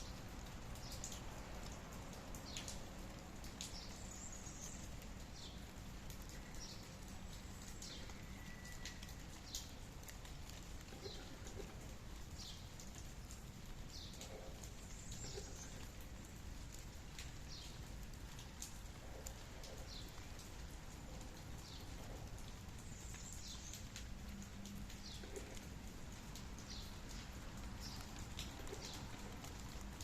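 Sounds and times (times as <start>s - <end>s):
light rain falling: 0.0s - 30.0s.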